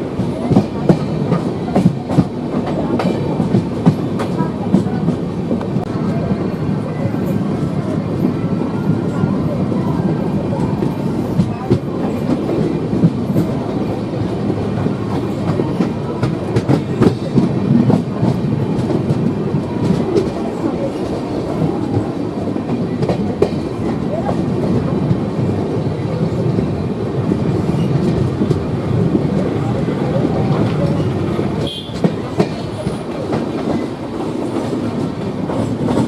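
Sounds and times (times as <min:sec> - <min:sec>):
clickety-clack of wheels on rails: 0:00.0 - 0:36.0
train wheels and wind rushing: 0:00.0 - 0:36.0.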